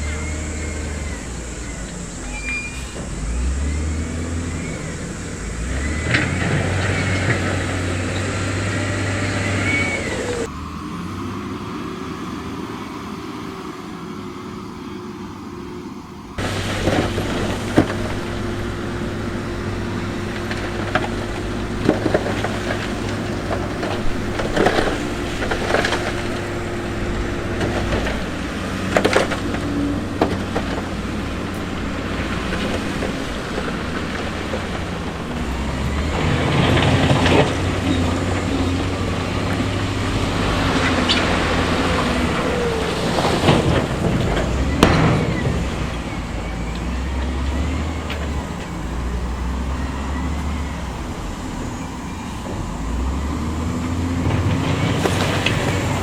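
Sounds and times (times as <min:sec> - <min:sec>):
heavy machinery diesel engines: 0:00.0 - 0:56.0.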